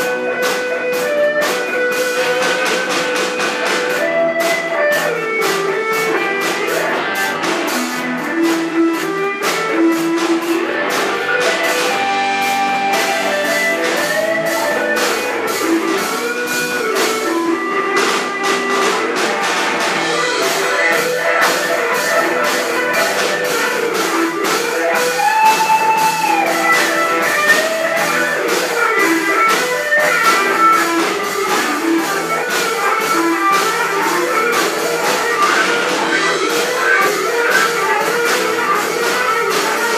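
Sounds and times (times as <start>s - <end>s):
electric guitar lead: 0.0s - 39.9s
rock band playing: 0.0s - 39.9s.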